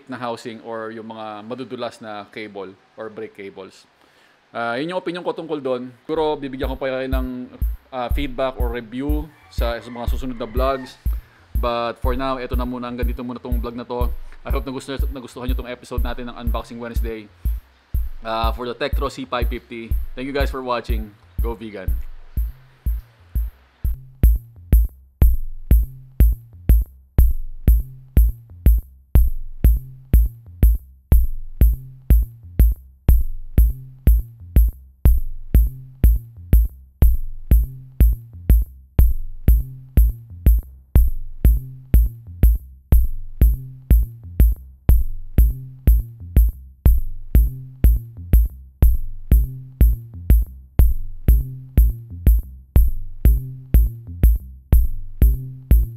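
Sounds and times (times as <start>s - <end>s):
deep bass line: 6.2s - 55.9s
electronic music with drum machine: 6.2s - 55.9s.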